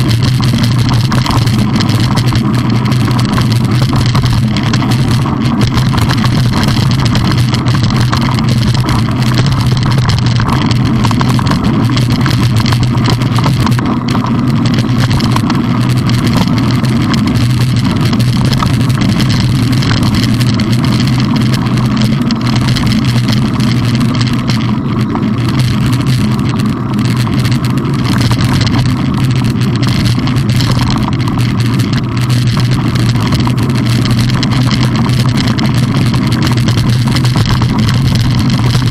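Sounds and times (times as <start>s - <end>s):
bike riding rumble on gravel: 0.0s - 38.9s.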